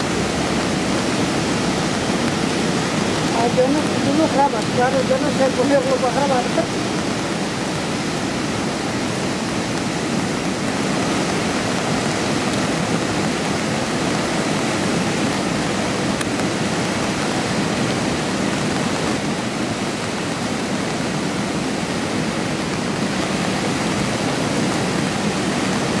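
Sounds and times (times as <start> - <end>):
river torrent rushing: 0.0 - 26.0.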